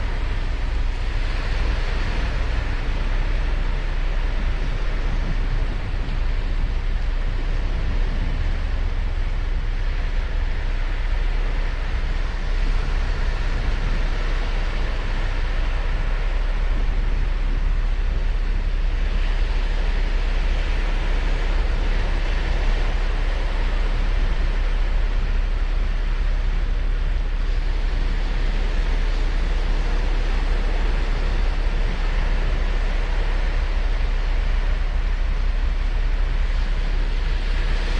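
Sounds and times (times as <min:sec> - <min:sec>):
low rumble: 0:00.0 - 0:37.9
surf breaking on a beach: 0:00.0 - 0:37.9.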